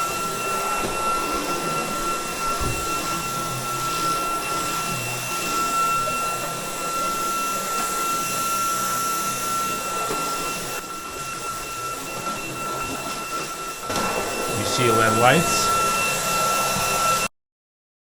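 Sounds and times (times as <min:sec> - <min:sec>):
cordless vacuum running: 0:00.0 - 0:17.3.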